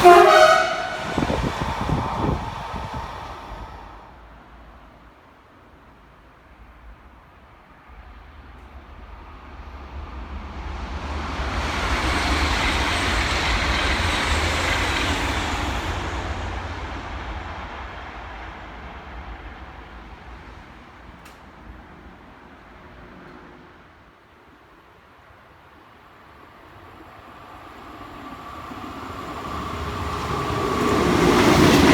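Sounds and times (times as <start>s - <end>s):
train passing by: 0.0s - 31.9s.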